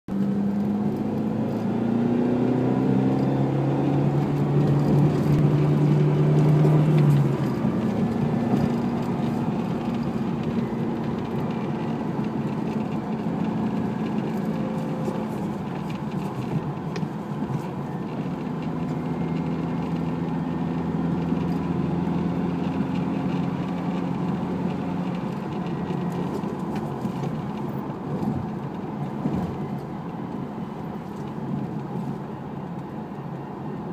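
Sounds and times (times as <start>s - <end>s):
continuous rumble: 0.1s - 33.9s.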